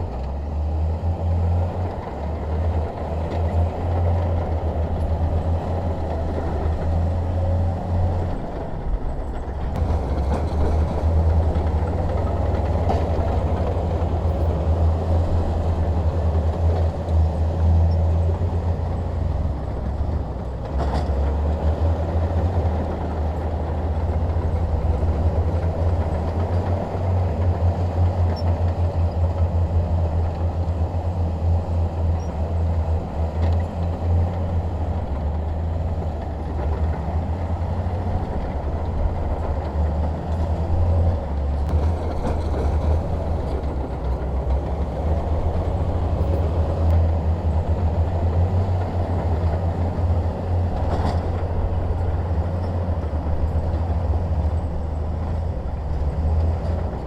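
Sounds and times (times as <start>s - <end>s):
bulldozer engine rumbling: 0.0s - 57.0s.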